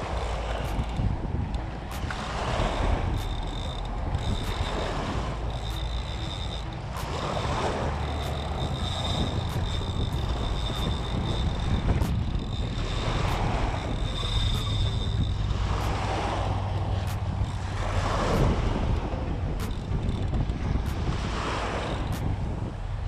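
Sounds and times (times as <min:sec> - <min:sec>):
small waves washing on shore: 0:00.0 - 0:20.0
faint high whine: 0:00.0 - 0:22.9
wind buffeting microphone: 0:00.0 - 0:23.0.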